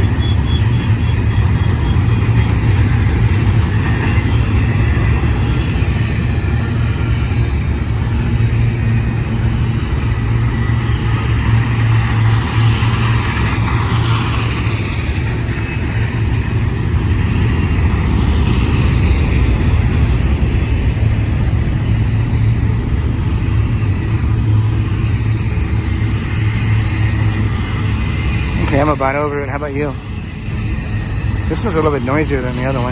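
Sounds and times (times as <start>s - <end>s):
freight train rumbling past: 0.0s - 32.9s.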